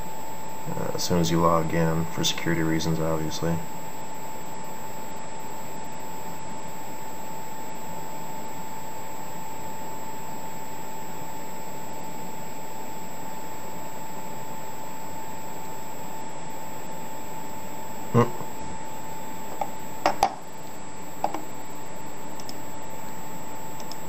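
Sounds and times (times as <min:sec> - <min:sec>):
faint high whine: 0:00.0 - 0:24.0
mid-pitched electronic whine: 0:00.0 - 0:24.0.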